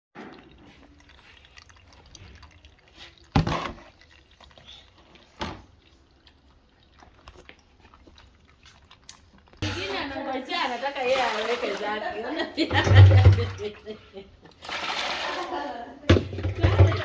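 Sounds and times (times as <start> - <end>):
water dripping and trickling: 0.2 - 15.6.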